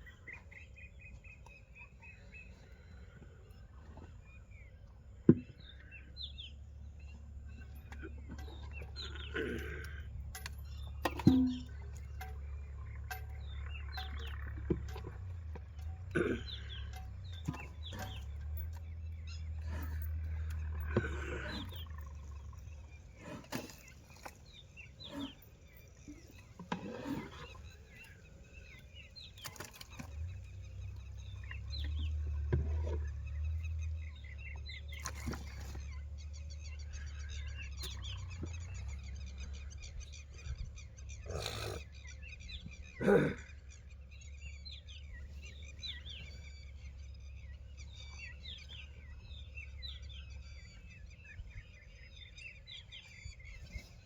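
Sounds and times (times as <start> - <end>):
birds chirping: 0.0 - 54.0
low steady rumble: 0.0 - 54.0.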